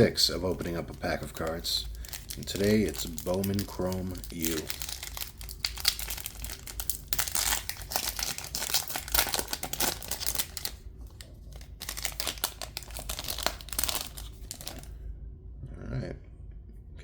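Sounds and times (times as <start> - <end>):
foil wrapper crinkling: 0.0 - 14.9.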